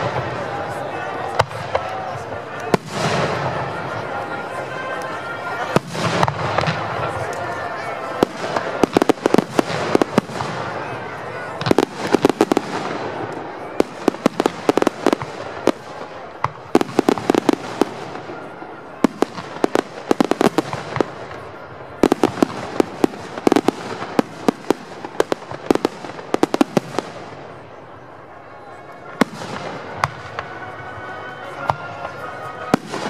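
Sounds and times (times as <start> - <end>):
fireworks bangs: 0.0 - 27.9, 29.0 - 33.0.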